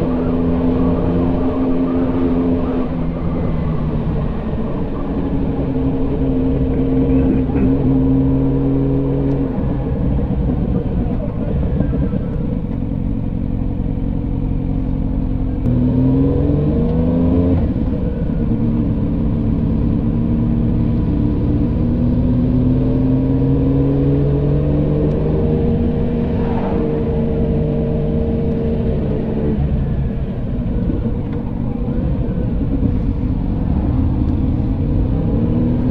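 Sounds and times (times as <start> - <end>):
road and wind noise: 0.0 - 35.9
vehicle engine running: 0.0 - 35.9.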